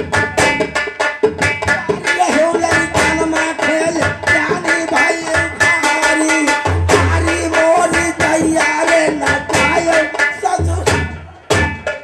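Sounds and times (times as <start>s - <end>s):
sharp drum strikes: 0.0s - 12.0s.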